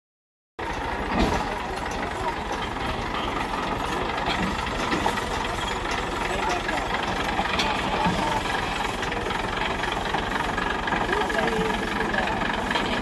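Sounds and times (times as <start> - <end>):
crowd voices calling: 0.6 - 13.0
tractor diesel engine running: 0.6 - 13.0.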